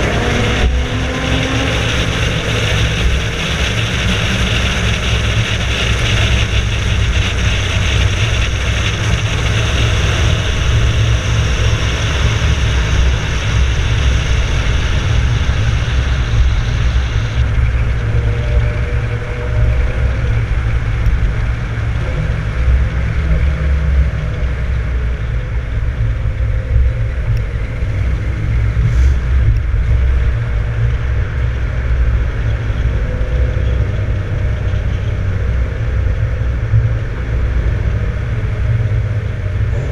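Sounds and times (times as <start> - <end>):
car engine droning at cruise: 0.0 - 39.9
road noise: 0.0 - 39.9.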